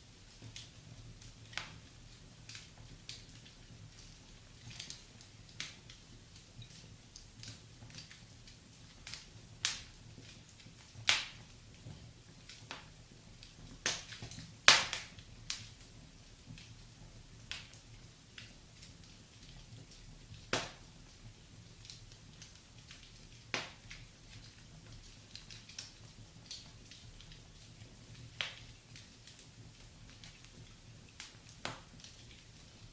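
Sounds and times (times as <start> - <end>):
fireplace fire crackling: 0.0 - 32.9
sharp pops from fire: 0.2 - 32.9.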